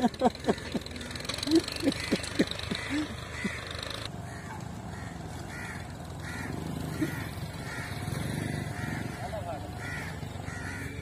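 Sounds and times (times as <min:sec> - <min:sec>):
birds cawing: 0:00.3 - 0:11.0.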